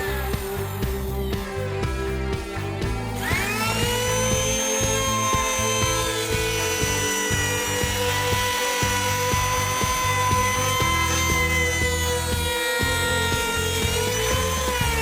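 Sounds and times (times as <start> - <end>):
background music with a beat: 0.0 - 15.0
power tool motor whine: 0.0 - 15.0.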